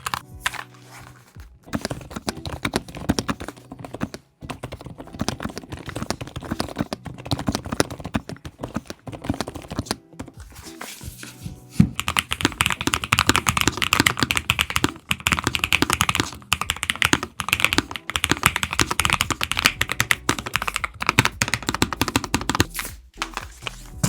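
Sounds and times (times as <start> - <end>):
fast typing on a keyboard: 0.0 - 0.6, 1.7 - 10.4, 12.0 - 22.7.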